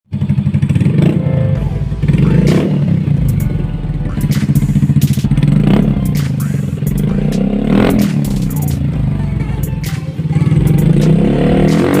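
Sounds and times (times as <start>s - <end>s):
scooter engine exhaust pulsing: 0.1s - 12.0s.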